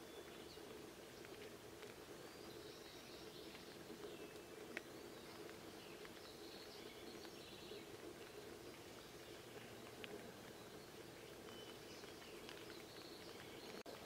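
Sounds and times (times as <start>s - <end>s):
rain hiss: 0.0s - 14.0s
small birds chirping: 0.0s - 14.0s.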